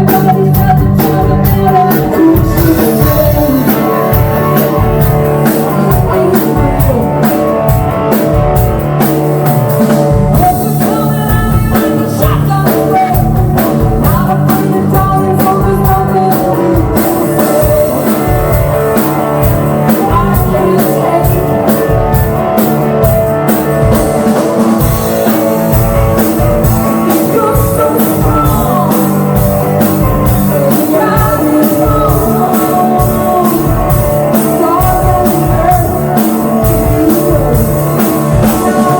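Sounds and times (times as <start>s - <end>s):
person singing: 0.0s - 24.0s, 24.8s - 38.9s
drum kit beat: 0.0s - 38.9s
electric guitar chords: 0.0s - 38.9s.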